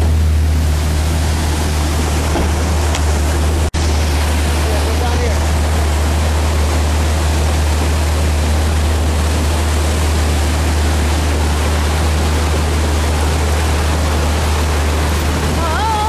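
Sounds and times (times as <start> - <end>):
constant low rumble: 0.0 - 16.0
floodwater rushing: 0.0 - 16.0.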